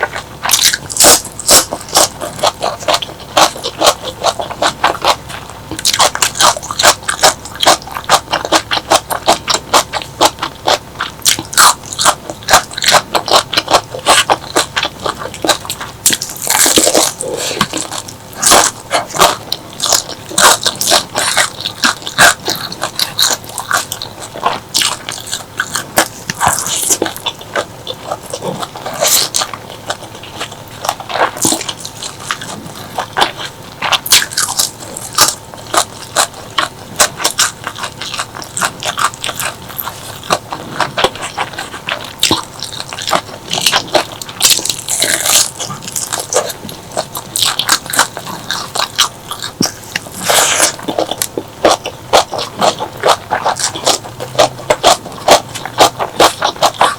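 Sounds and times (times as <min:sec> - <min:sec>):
crunchy chewing of crisp food: 0:00.0 - 0:56.9.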